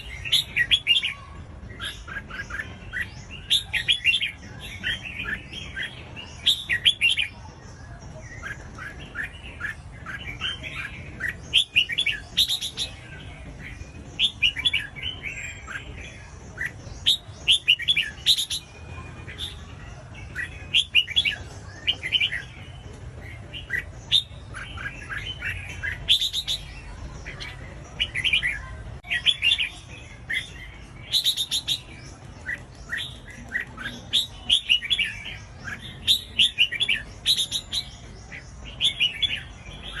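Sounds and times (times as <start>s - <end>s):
bird singing chirpy phrases: 0.0s - 40.0s.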